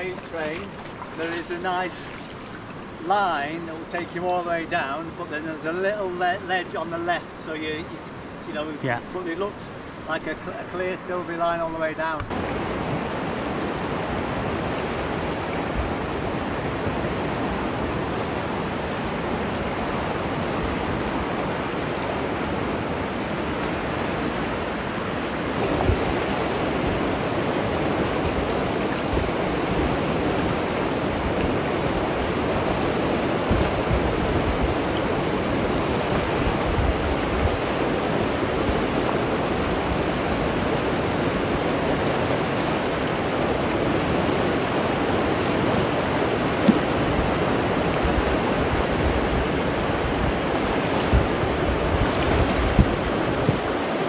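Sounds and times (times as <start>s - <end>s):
water rushing over rocks: 0.0s - 8.8s, 10.5s - 54.0s.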